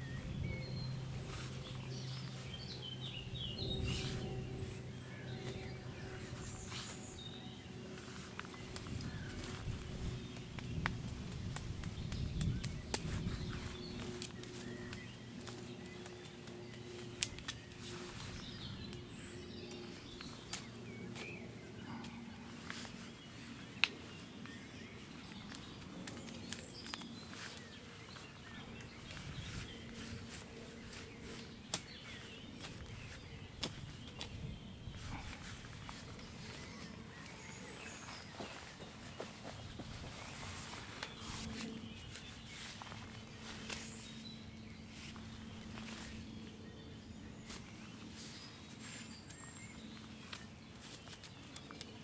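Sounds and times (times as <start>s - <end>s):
steady low hum: 0.0s - 51.6s.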